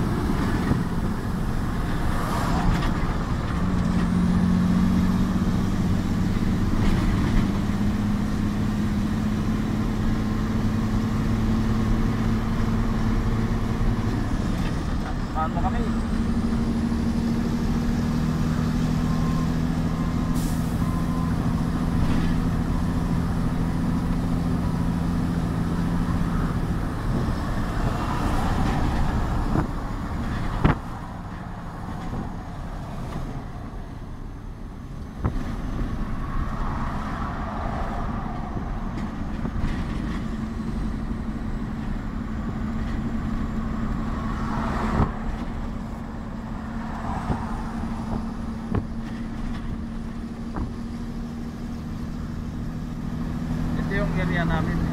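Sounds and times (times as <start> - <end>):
diesel engine drone: 0.0 - 54.9
road noise: 0.0 - 54.9.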